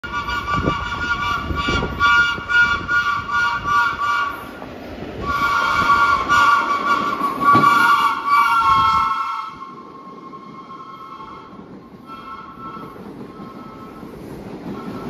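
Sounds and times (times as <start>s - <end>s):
train horn blasts: 0.0s - 4.5s, 5.2s - 14.1s
train rumbling on rails: 0.0s - 15.0s.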